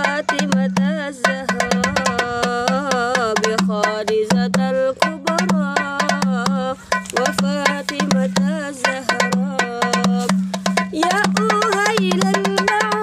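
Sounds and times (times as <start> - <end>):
devotional song melody: 0.0 - 13.0
hand drum tapping: 0.0 - 13.0.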